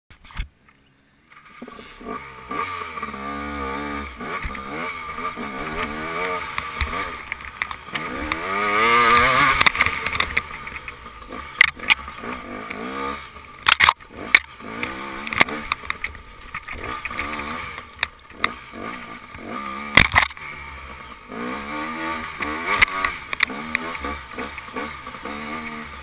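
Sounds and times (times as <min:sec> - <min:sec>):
dirt bike engine revving: 0:01.3 - 0:26.0.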